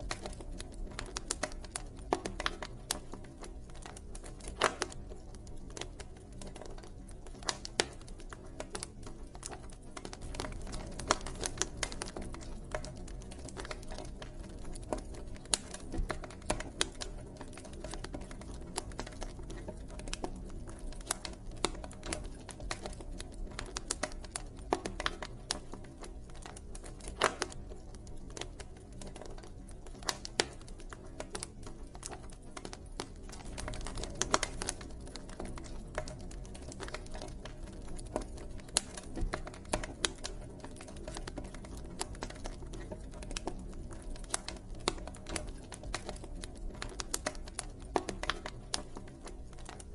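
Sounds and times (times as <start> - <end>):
campfire crackling and popping: 0.0 - 49.9
low rumble of flames: 0.0 - 49.9.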